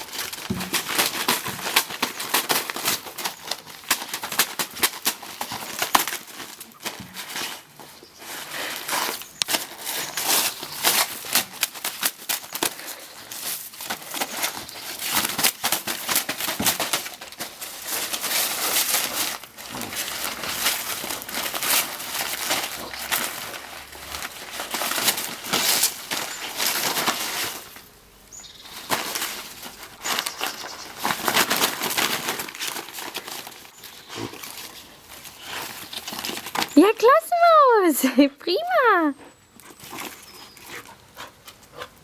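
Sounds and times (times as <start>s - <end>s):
wrapping paper crackling and tearing: 0.0s - 38.0s.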